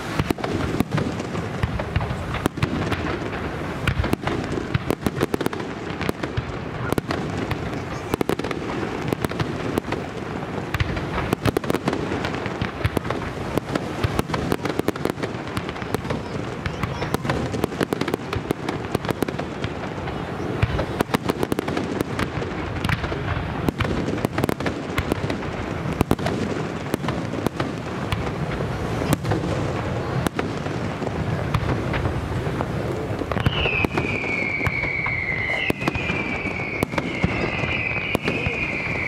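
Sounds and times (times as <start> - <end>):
fireworks bursts and crackle: 0.0 - 39.0
whistling fireworks: 0.0 - 39.0.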